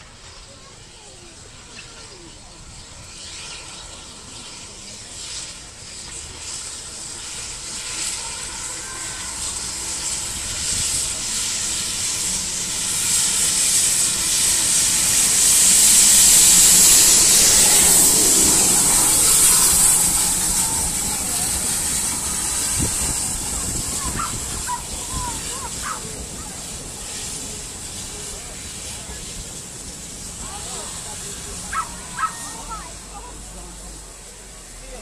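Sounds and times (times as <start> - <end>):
steam locomotive hissing: 0.0 - 35.0.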